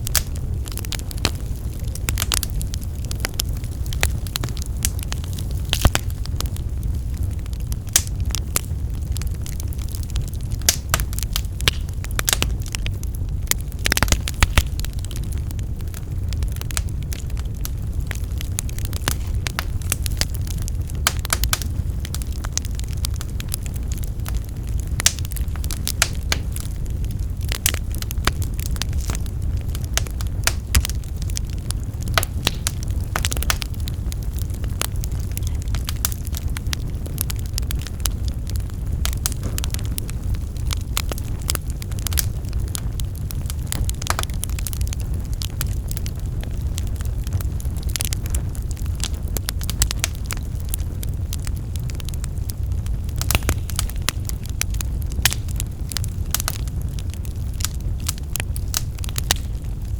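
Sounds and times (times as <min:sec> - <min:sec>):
fire flames rushing: 0:00.0 - 0:59.9
firewood crackling and popping: 0:00.0 - 0:59.9.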